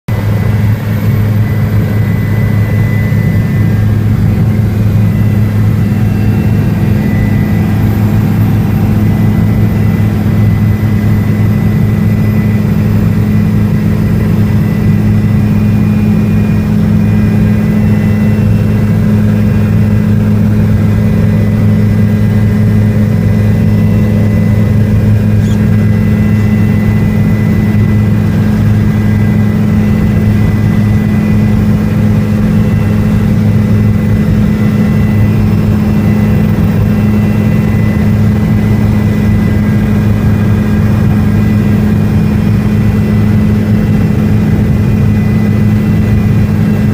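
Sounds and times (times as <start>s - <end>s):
helicopter engine and rotors drone: 0.1s - 46.9s.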